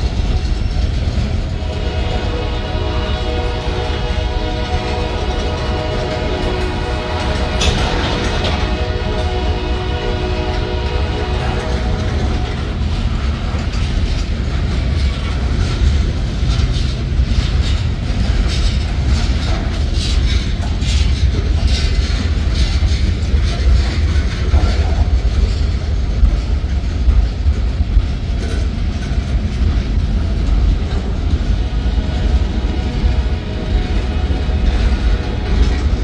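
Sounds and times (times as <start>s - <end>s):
freight train wheels rumbling: 0.0s - 36.0s
wheels clacking over rail joints: 0.0s - 36.0s.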